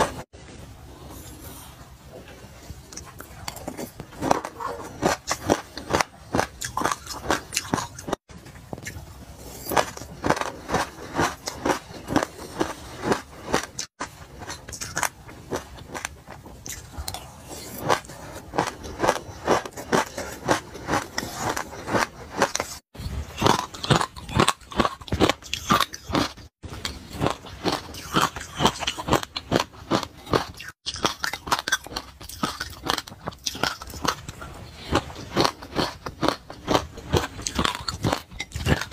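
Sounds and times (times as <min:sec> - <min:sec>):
crunchy chewing: 0:01.0 - 0:38.9.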